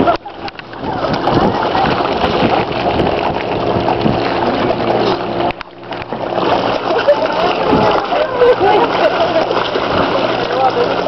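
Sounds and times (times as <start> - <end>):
fish splashing in water: 0.0 - 11.0.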